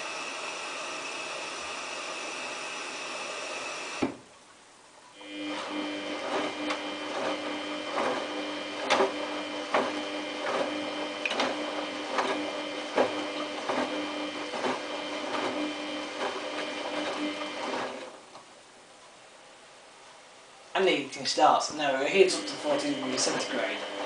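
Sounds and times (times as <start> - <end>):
washing machine motor whine: 0.0 - 4.2, 5.1 - 18.3, 21.9 - 24.0.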